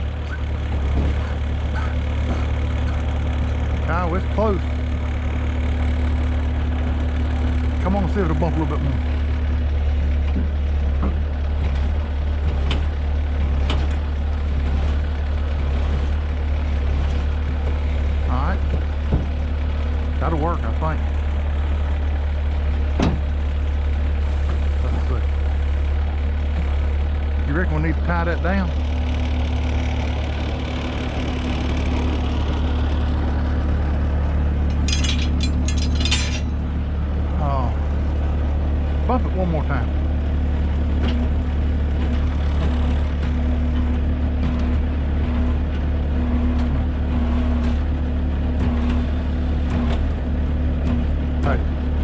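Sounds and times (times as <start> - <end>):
heavy engine low hum: 0.0 - 52.0.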